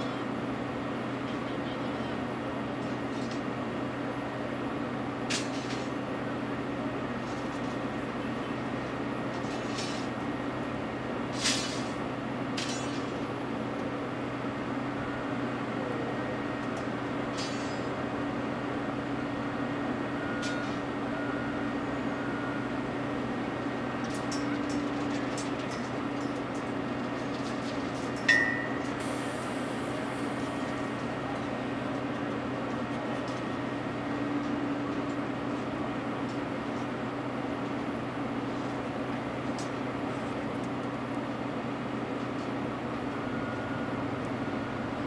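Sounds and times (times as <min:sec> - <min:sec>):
excavator diesel engines running: 0:00.0 - 0:45.0.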